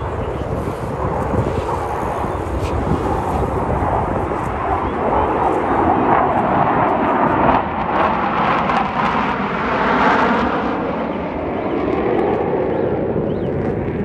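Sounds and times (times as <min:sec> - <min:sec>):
jet roar overhead: 0:00.0 - 0:14.0.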